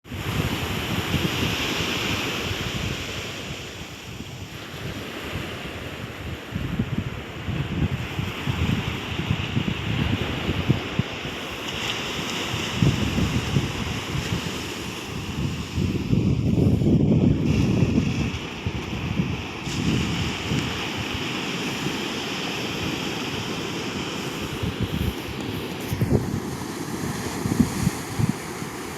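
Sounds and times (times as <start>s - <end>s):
ocean surf washing onto beach: 0.0s - 28.9s
wind buffeting microphone: 0.0s - 28.9s.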